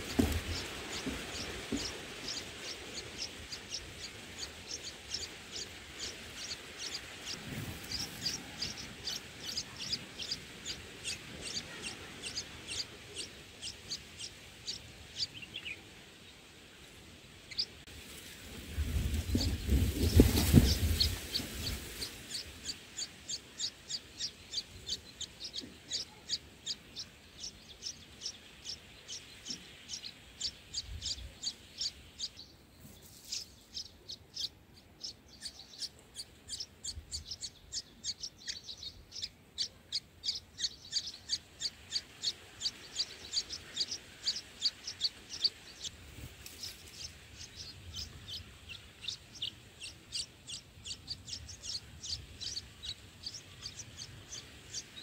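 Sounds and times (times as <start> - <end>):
nestlings begging with high chirps: 0.0 - 17.8, 18.9 - 55.0.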